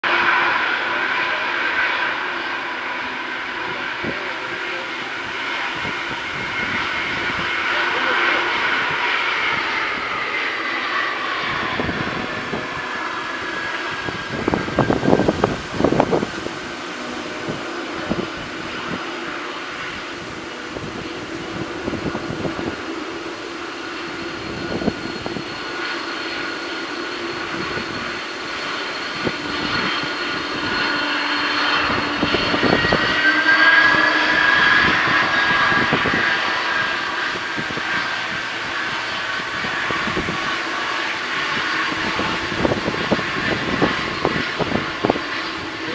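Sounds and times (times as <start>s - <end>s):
jet engines at takeoff power: 0.0s - 45.9s.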